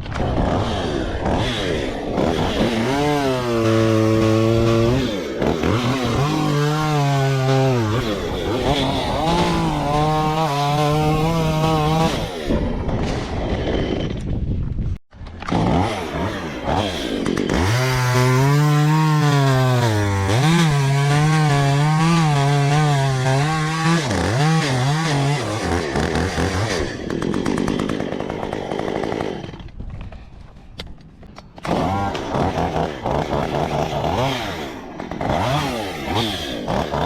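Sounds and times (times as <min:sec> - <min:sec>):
chainsaw revving and sawing wood: 0:00.0 - 0:14.3, 0:15.2 - 0:30.3, 0:31.5 - 0:37.0.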